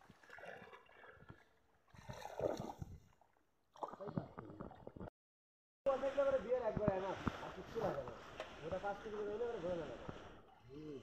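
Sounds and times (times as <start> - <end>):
water sloshing and splashing: 0.0 - 5.1, 5.9 - 11.0.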